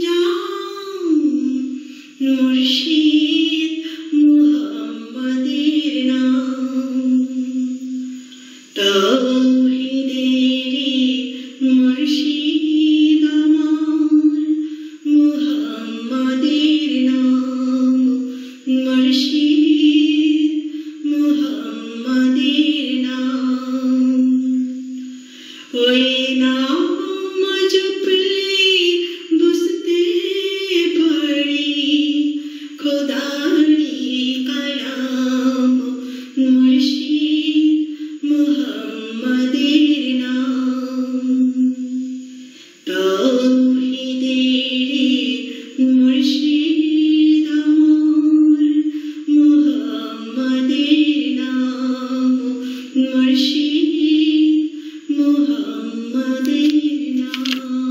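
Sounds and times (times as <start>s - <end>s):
woman singing unaccompanied: 0.0s - 57.9s.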